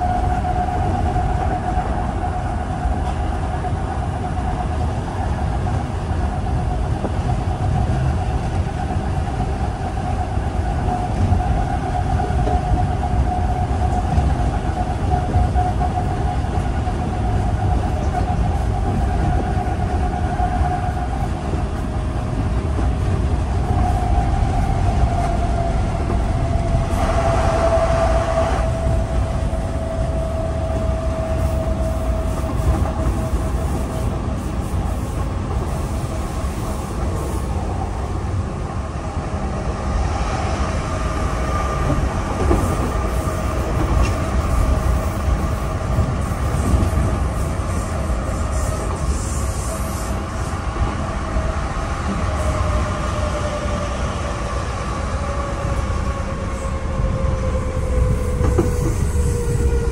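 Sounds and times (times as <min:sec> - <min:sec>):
train running gear rumble: 0:00.0 - 0:59.9.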